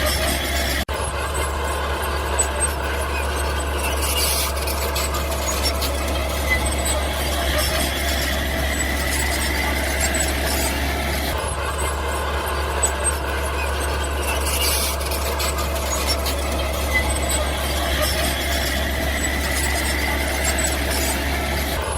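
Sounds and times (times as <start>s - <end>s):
mini bulldozer running: 0.0s - 21.9s.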